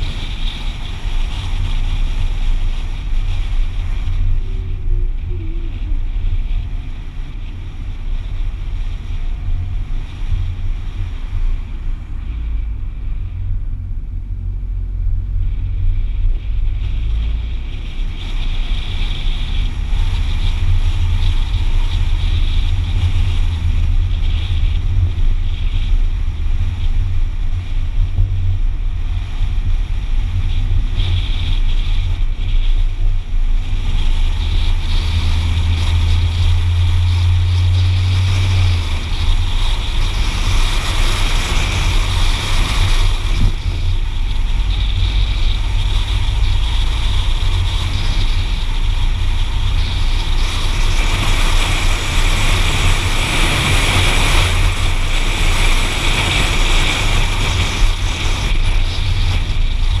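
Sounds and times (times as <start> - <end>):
car engine drone: 0.0 - 60.0
tyre and wind noise: 0.0 - 60.0.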